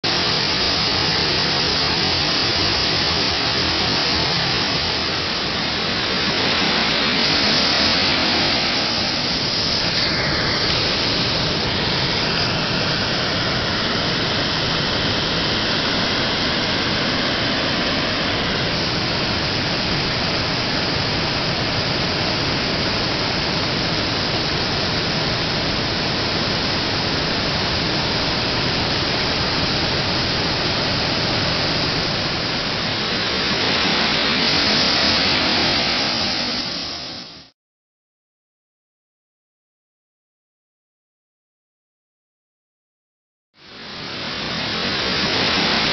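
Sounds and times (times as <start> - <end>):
floodwater rushing: 0.0 - 37.5, 43.7 - 45.9.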